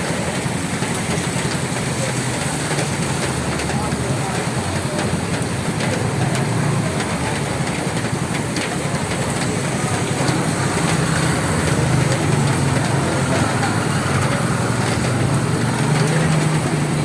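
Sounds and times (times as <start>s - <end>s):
rain on a roof: 0.0s - 17.0s
drops ticking: 0.3s - 17.0s.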